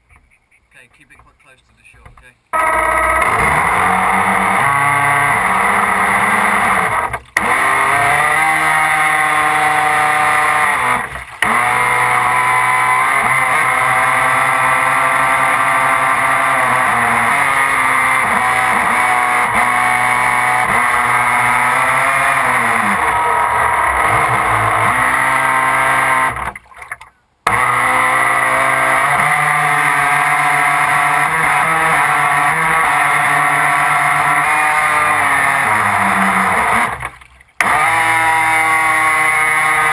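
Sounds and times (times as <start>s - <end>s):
model speedboat motor and propeller: 2.5s - 39.9s.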